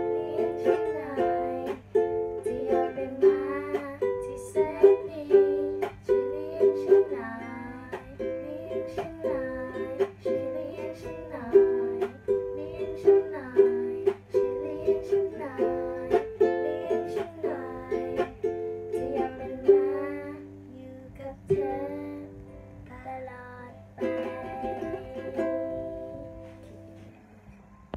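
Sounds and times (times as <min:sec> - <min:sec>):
girl singing: 0:00.0 - 0:27.0
ukulele strumming: 0:00.0 - 0:27.2.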